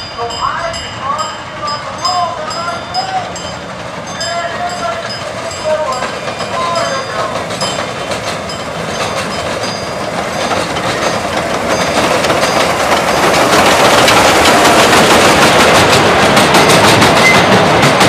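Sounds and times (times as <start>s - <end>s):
miniature train rolling past: 0.0s - 18.0s
train wheels clicking on rail joints: 0.7s - 18.0s.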